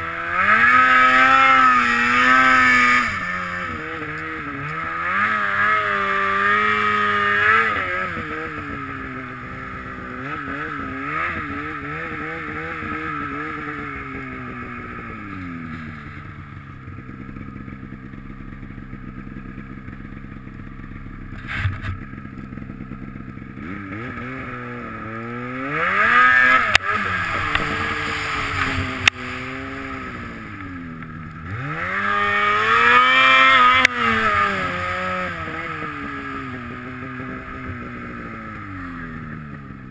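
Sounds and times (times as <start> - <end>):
snowmobile engine revving: 0.0 - 17.6, 21.3 - 22.7, 23.3 - 39.9.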